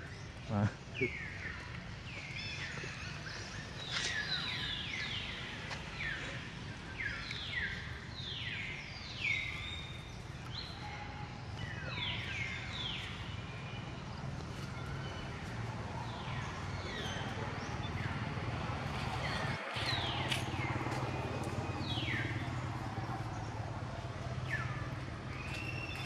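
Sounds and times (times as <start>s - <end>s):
faint outdoor hum: 0.0s - 26.0s.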